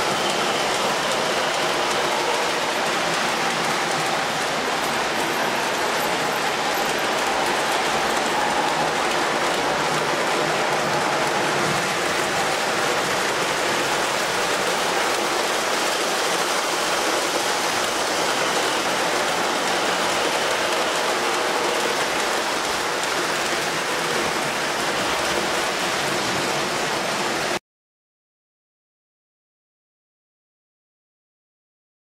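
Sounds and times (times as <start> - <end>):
model train wheels on rail: 0.0 - 27.6.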